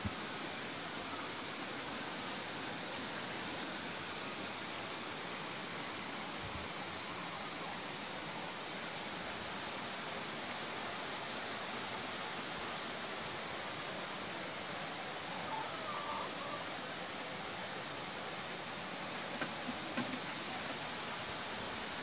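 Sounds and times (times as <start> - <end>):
outdoor ambience rushing noise: 0.0 - 22.0.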